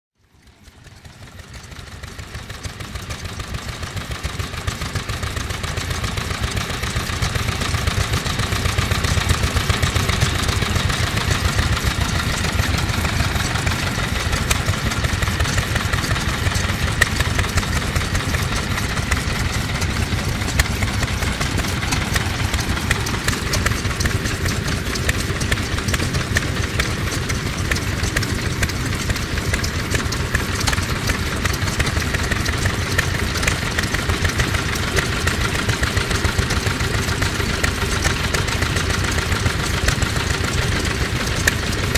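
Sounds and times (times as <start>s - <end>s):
stationary engine running: 0.2s - 41.9s.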